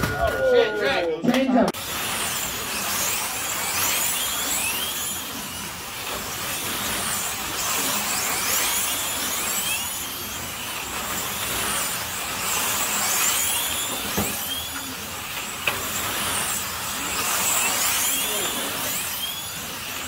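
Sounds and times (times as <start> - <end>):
slot car motors whining: 1.8 - 20.0.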